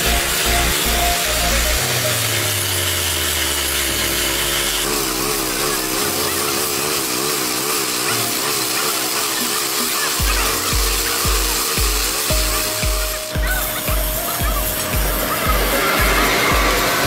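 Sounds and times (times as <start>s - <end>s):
grinders grinding steel rail: 0.0s - 17.0s.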